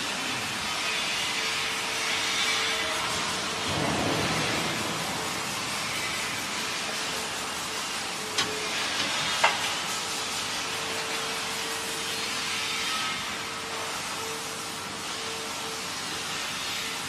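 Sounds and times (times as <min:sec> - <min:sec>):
frying machine hissing: 0:00.0 - 0:17.0.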